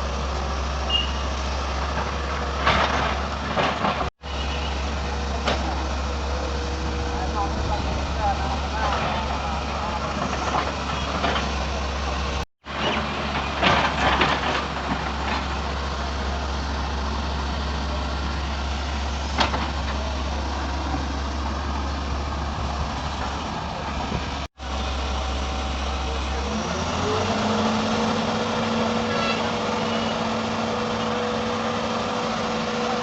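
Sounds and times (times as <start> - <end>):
excavator diesel engine droning: 0.0 - 33.0.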